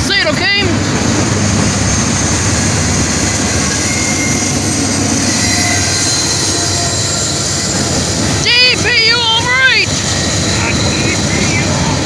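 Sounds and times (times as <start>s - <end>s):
freight cars rumbling on rails: 0.0s - 12.0s
high wheel squeal: 1.3s - 12.0s.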